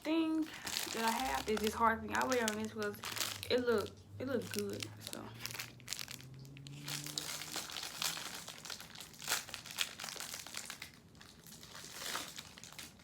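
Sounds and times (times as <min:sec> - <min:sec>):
snack wrapper crinkling: 0:00.3 - 0:13.0.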